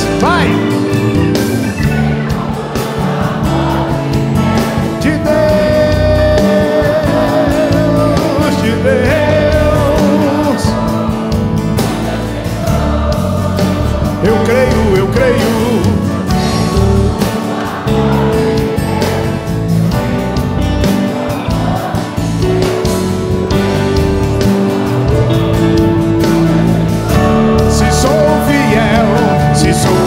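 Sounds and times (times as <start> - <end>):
crowd singing worship song: 0.0 - 30.0
live band playing: 0.0 - 30.0.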